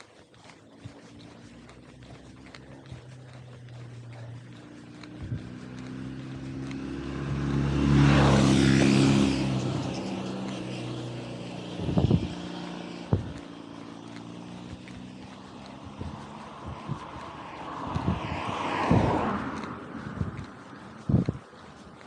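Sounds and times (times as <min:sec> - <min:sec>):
motor vehicle passing by: 0:00.0 - 0:22.0.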